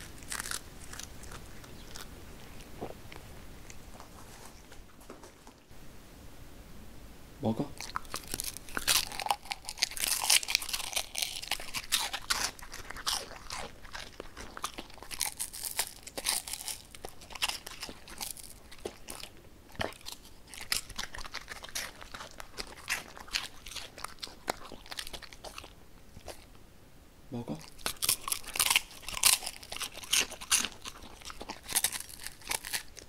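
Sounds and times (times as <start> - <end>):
dog crunching on fish: 0.0 - 4.7, 7.8 - 26.5, 27.6 - 33.0.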